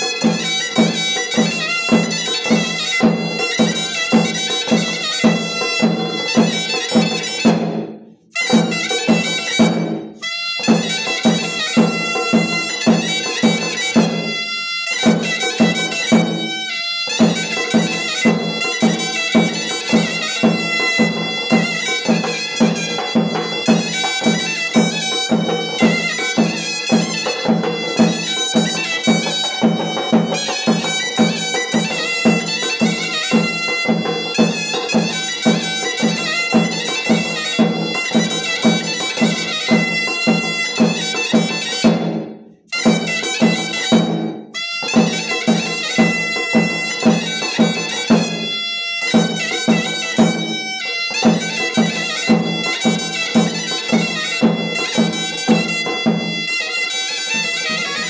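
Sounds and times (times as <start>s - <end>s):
large drum beat: 0.0s - 14.4s, 15.0s - 56.5s
shrill reedy folk melody: 0.0s - 58.0s.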